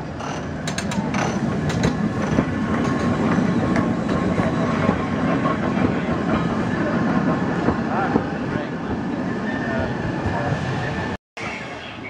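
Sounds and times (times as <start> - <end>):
tram wheels on rail: 0.0 - 12.0.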